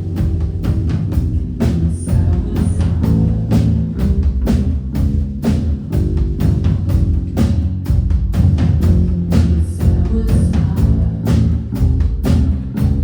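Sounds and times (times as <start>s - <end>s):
loud band music with heavy bass: 0.0s - 13.0s
steady drum beat: 0.0s - 13.0s.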